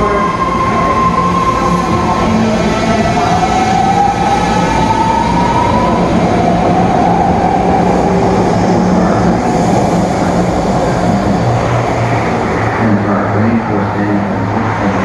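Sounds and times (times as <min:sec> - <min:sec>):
traction motor whine: 0:00.0 - 0:15.0
train rumbling: 0:00.0 - 0:15.0.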